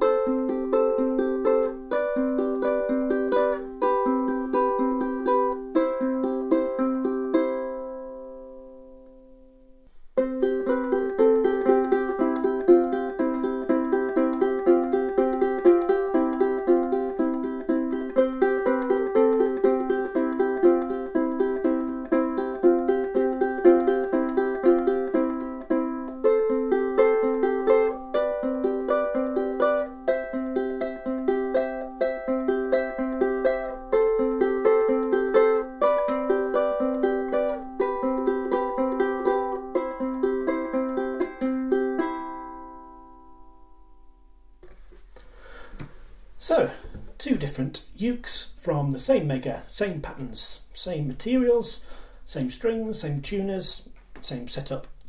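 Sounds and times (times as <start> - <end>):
fingerstyle ukulele playing: 0.0 - 45.0.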